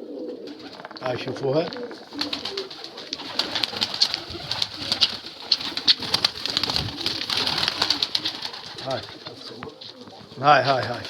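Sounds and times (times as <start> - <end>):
pigeons clicking and chirping: 0.0 - 11.0
pigeons cooing: 0.0 - 11.0.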